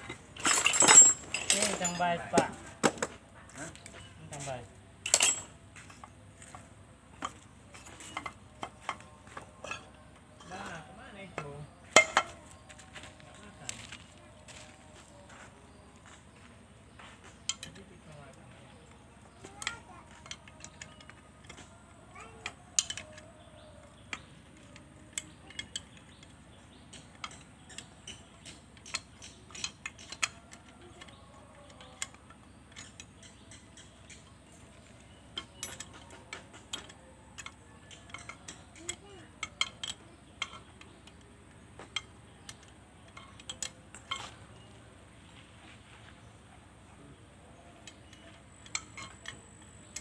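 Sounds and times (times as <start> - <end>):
light metallic clicks and clinks: 0.0 - 16.2, 17.0 - 50.0.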